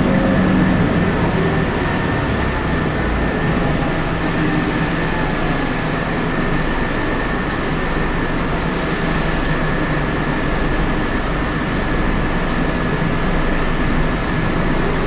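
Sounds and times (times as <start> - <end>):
bus engine and road drone: 0.0 - 15.0
steady high whine: 0.0 - 15.0.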